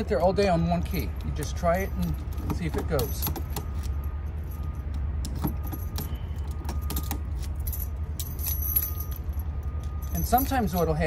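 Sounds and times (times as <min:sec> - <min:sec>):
steady low rumble: 0:00.0 - 0:11.0
keys jangling and clicking: 0:00.8 - 0:11.0.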